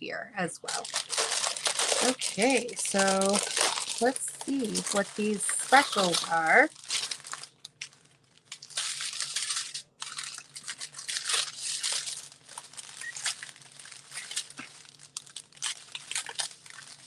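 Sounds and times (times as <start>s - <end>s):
plastic packets crinkling: 0.6s - 17.0s.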